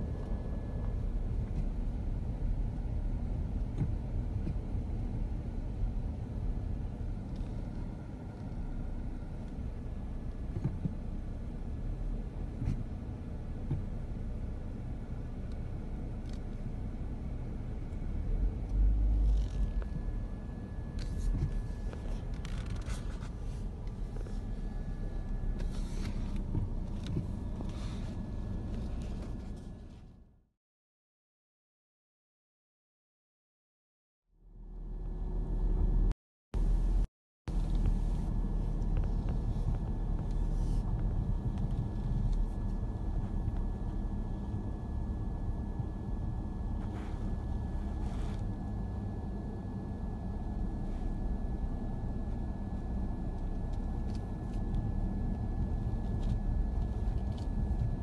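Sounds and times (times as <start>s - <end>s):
car interior rumble: 0.0s - 30.2s, 34.6s - 58.0s.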